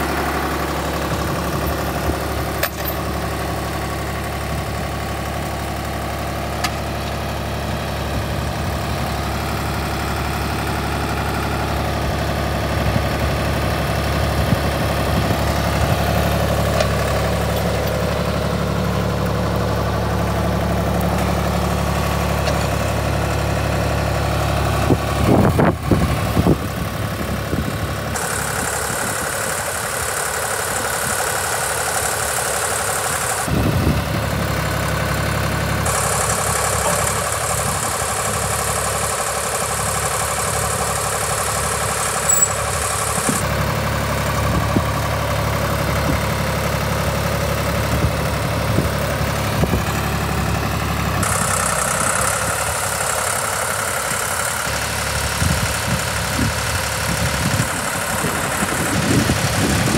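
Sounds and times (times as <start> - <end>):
trencher engine running: 0.0 - 59.9.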